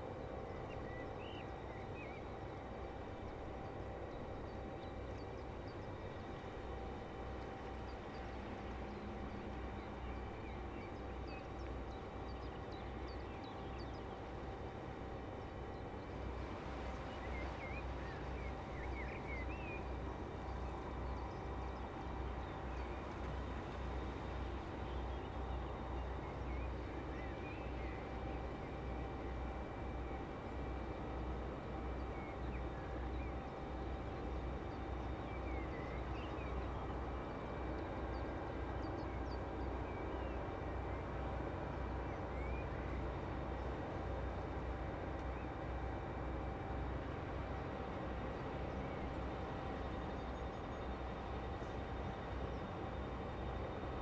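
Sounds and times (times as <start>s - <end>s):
faint machinery hum: 0.0s - 54.0s.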